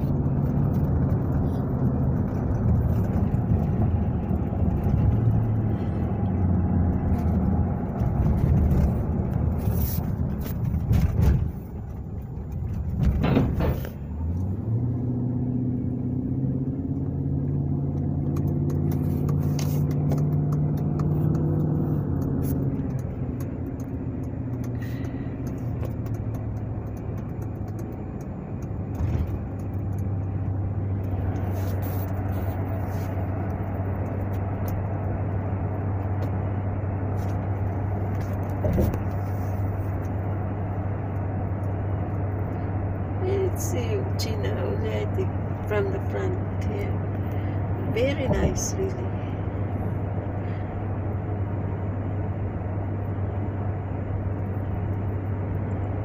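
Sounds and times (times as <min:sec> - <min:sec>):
car engine humming: 0:00.0 - 0:56.0
road noise inside car: 0:00.0 - 0:56.0.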